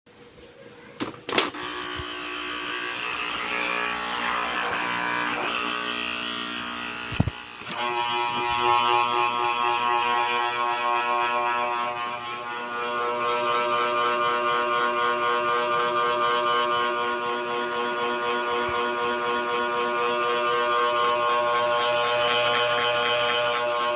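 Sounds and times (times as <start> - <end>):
small fan motor whirring: 1.4 - 23.9.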